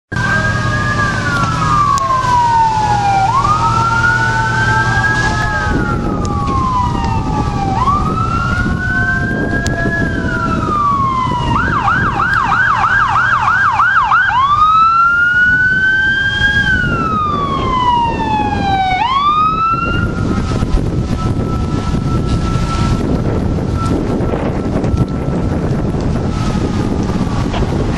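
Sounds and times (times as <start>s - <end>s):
electronic siren wailing: 0.1s - 27.9s.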